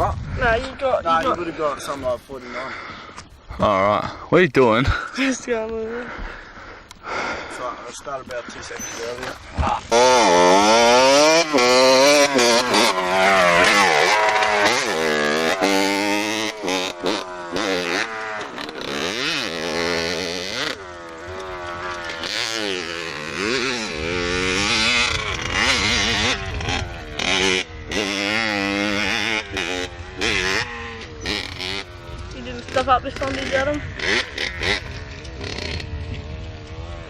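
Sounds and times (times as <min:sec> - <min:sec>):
motorcycle engine revving: 0:07.1 - 0:37.0.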